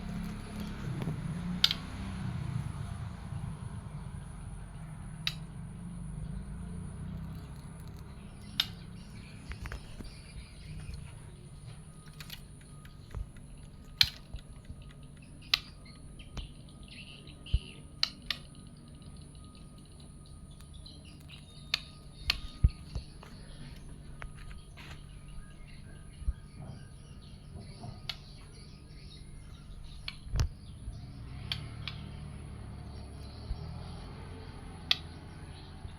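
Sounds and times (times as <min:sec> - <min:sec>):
bird twittering: 0:04.0 - 0:35.9.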